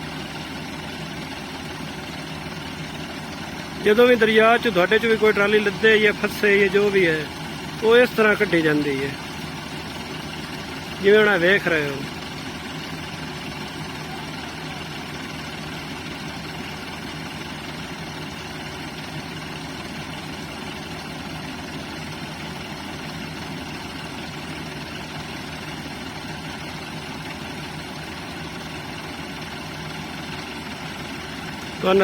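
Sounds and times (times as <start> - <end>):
tractor diesel engines under load: 0.0 - 32.0.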